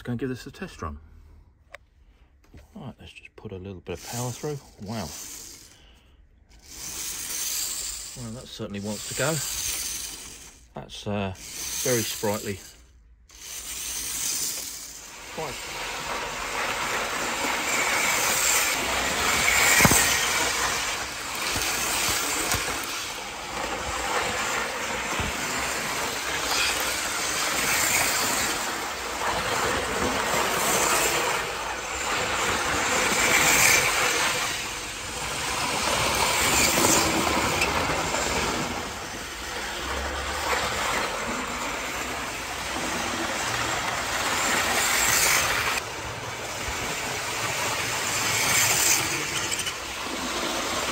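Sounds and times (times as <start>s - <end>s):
model train wheels clattering: 4.0s - 5.8s, 6.5s - 50.9s.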